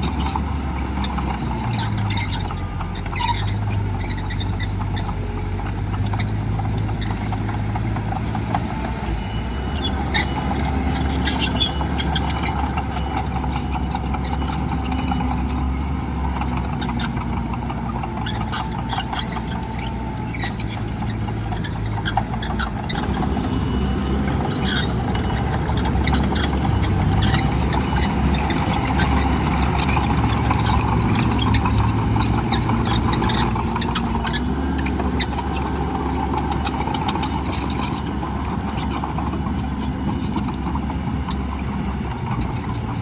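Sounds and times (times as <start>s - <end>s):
diesel earthmoving machinery running: 0.0s - 43.0s.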